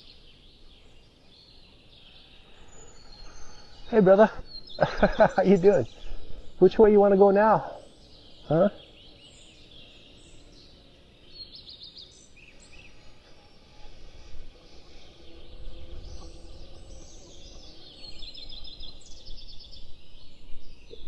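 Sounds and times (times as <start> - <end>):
low rumbling background noise: 0.0 - 21.0
songbirds singing trills and chirps: 0.0 - 21.0.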